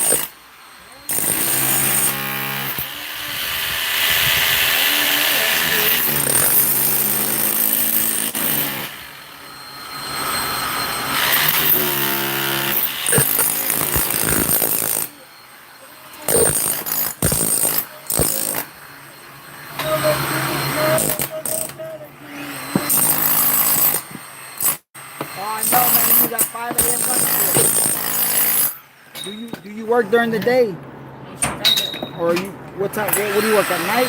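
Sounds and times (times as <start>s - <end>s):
power tool running: 0.0s - 29.2s, 33.0s - 34.0s.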